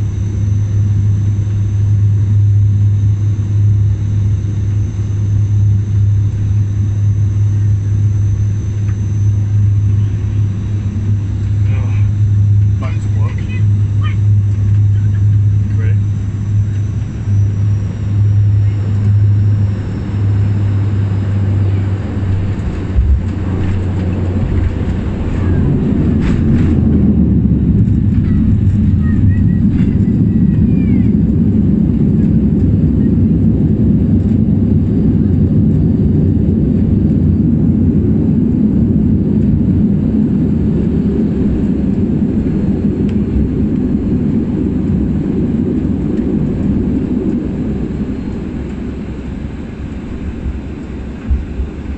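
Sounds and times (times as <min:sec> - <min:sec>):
heavy rumble: 0:00.0 - 0:51.9
propeller drone in aircraft cabin: 0:00.0 - 0:51.9.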